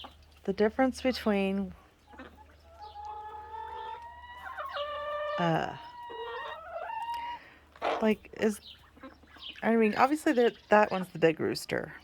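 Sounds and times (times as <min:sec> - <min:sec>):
chickens calling: 0:00.0 - 0:11.6.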